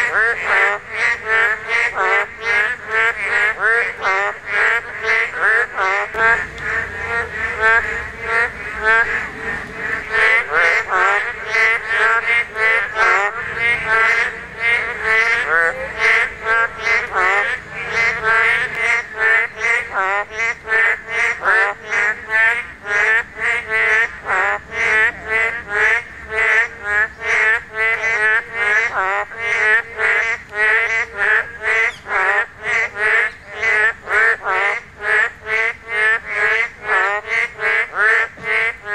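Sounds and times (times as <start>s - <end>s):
frogs calling in chorus: 0.0s - 38.9s.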